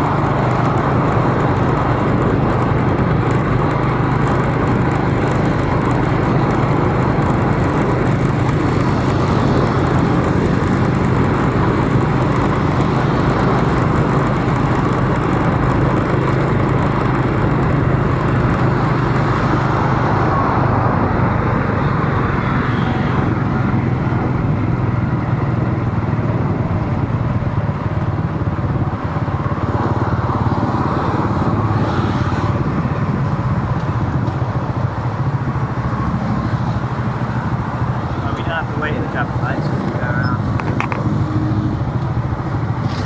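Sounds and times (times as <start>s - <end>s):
road and traffic noise: 0.0s - 43.0s
vehicle engine running: 0.0s - 43.0s.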